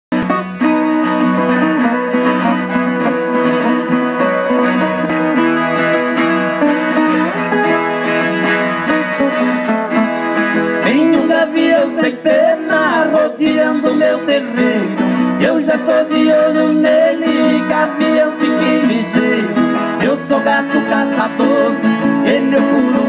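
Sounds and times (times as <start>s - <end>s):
acoustic guitars picked and strummed: 0.1s - 23.0s.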